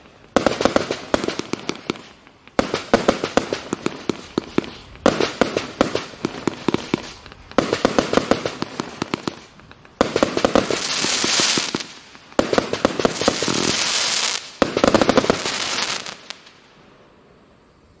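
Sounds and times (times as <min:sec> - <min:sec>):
firework crackling bangs: 0:00.0 - 0:16.7.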